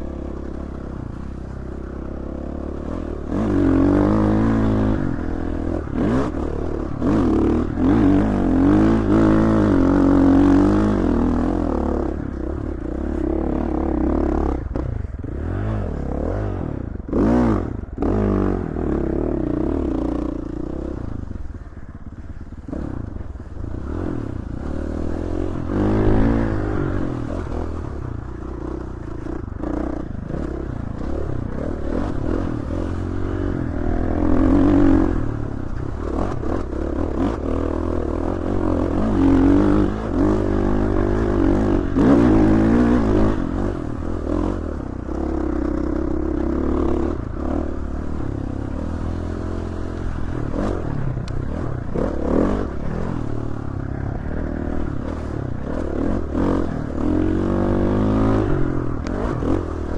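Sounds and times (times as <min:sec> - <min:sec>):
dirt bike engine revving: 0:00.0 - 0:21.4, 0:22.6 - 0:59.9.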